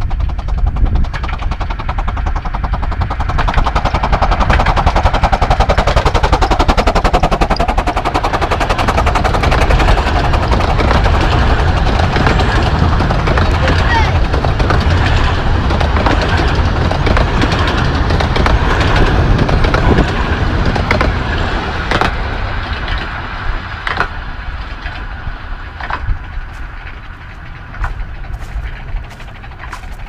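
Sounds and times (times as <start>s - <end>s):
miniature train rumbling: 0.0s - 30.0s.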